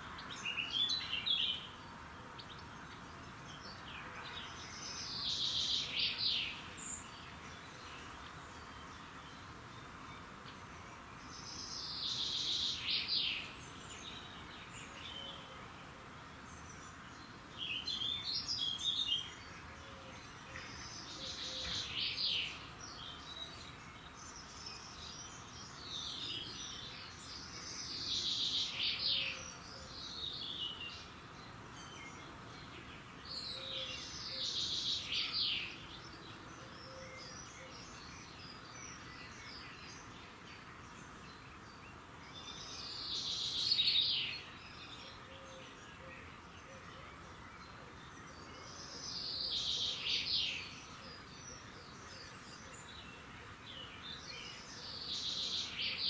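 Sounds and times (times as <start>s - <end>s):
songbird singing: 0.0s - 56.0s
steady background hiss: 0.0s - 56.0s.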